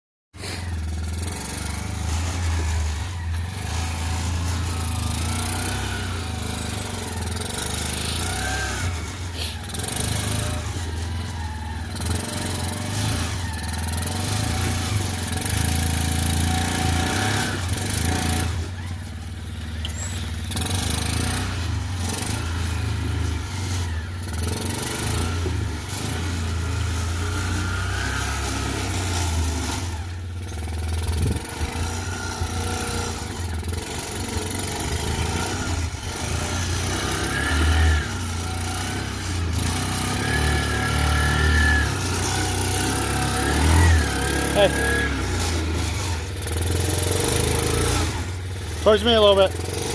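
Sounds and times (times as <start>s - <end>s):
small engine revving: 0.4s - 49.9s.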